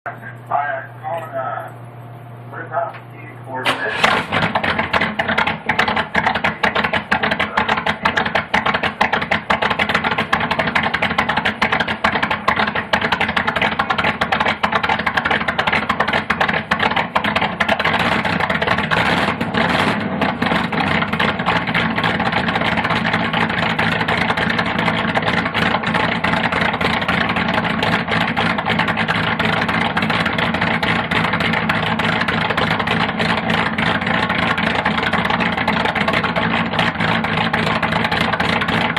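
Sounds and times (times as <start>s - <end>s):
car engine idling unevenly: 3.6s - 38.9s.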